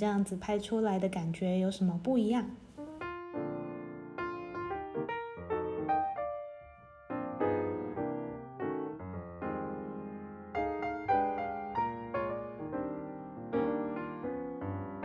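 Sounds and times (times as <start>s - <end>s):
gentle piano music: 2.1s - 15.0s.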